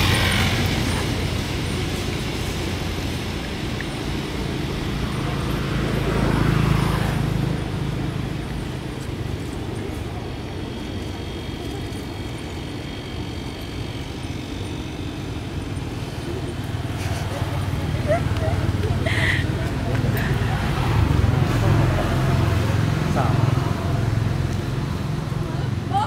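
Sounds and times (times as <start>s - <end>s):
low rumble of traffic: 0.0s - 26.0s
vehicle passing: 0.0s - 26.0s.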